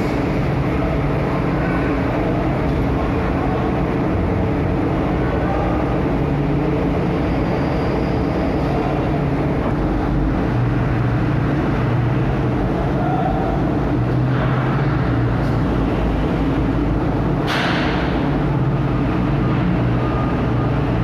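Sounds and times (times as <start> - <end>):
truck diesel engines running: 0.0 - 21.0.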